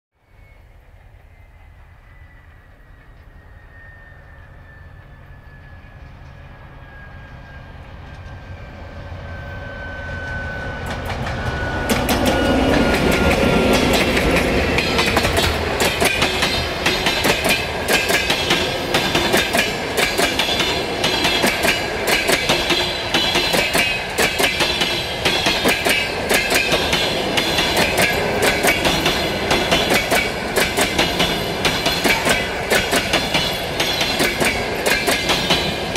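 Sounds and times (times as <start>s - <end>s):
train wheels clickety-clack: 0.6s - 8.7s, 9.8s - 35.9s
diesel locomotive engine rumble: 0.7s - 35.9s.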